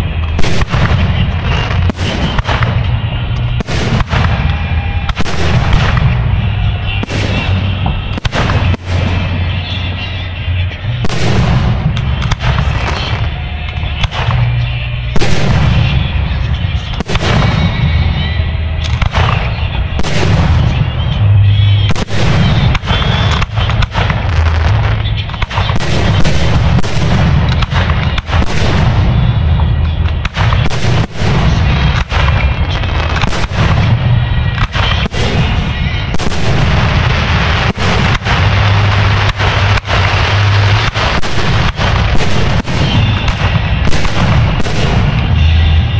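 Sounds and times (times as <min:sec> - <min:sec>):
deep rumble: 0:00.0 - 0:45.9
music playing: 0:00.0 - 0:45.9.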